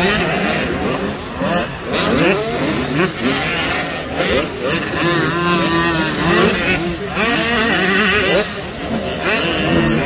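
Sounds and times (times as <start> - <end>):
motocross bike engine revving: 0.0 - 10.0.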